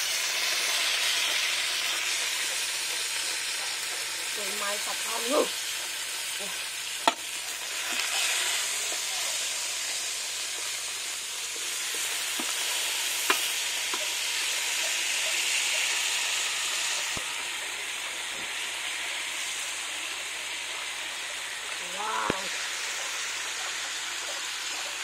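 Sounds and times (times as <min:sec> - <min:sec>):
chicken sizzling in a pot: 0:00.0 - 0:25.0.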